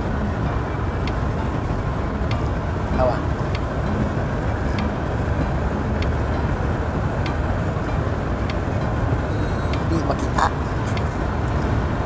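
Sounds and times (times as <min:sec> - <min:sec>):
faint ticking: 0:00.0 - 0:12.0
road and engine rumble in cabin: 0:00.0 - 0:12.0.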